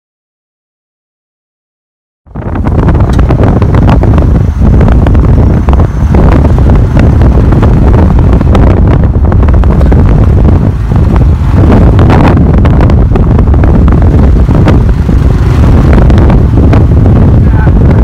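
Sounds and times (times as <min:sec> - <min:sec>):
wind buffeting microphone: 0:02.3 - 0:18.0.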